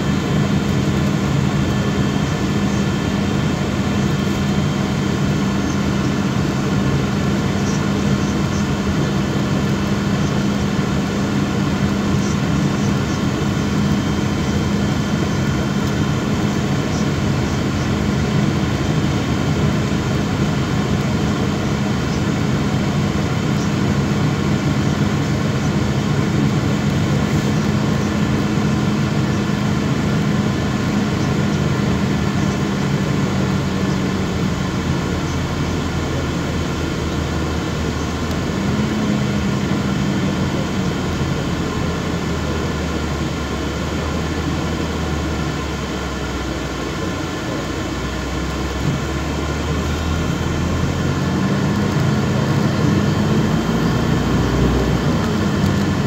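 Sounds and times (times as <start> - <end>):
bus diesel engine humming: 0.0 - 56.0
road noise: 0.0 - 56.0.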